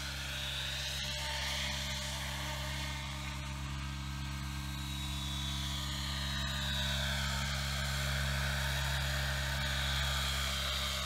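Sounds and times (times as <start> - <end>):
electric motor whine: 0.0 - 11.0
helicopter rotor hum: 0.0 - 11.0.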